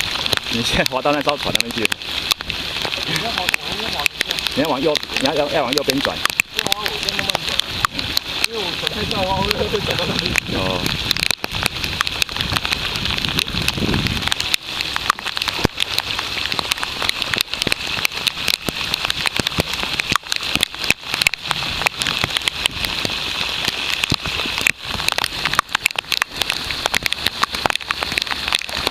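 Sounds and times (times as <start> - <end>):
rain falling on sea: 0.0 - 28.9.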